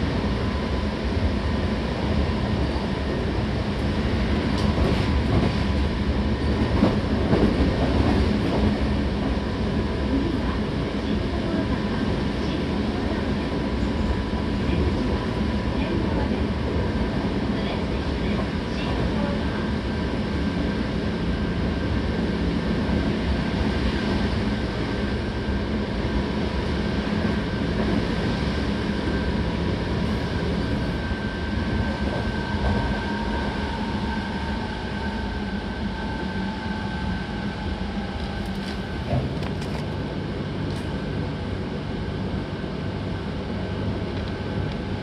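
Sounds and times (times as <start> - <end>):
wheels rumbling on rail: 0.0 - 45.0.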